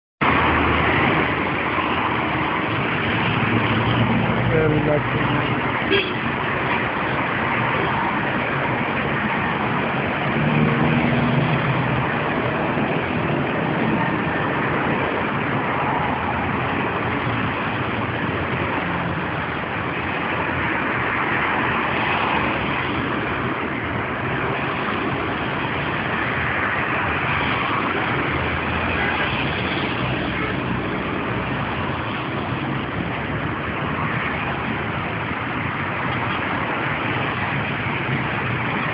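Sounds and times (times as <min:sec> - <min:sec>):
road traffic passing: 0:00.2 - 0:38.9.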